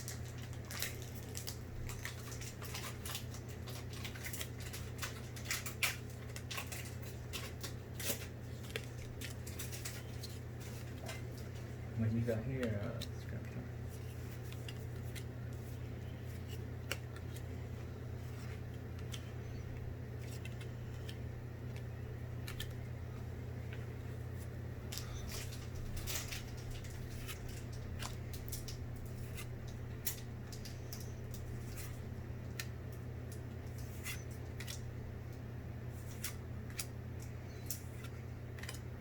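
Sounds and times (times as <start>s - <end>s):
foil wrapper crinkling: 0.0s - 17.5s, 24.8s - 39.0s
cards rustling: 0.0s - 39.0s
steady low hum: 0.0s - 39.0s.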